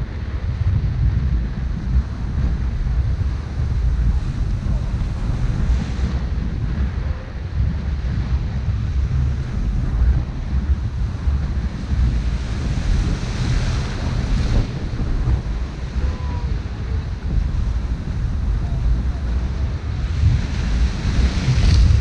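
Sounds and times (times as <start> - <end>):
wind buffeting microphone: 0.0 - 22.0
waves breaking on rocks: 2.0 - 22.0.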